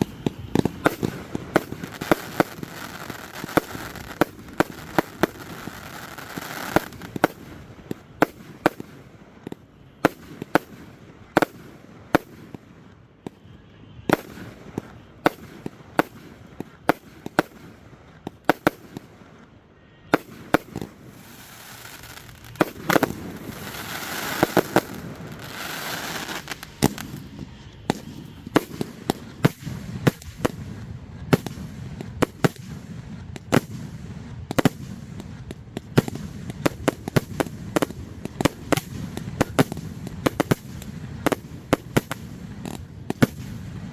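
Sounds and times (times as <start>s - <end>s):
fireworks bangs: 0.0s - 43.9s
fireworks crackling and hissing: 0.0s - 43.9s.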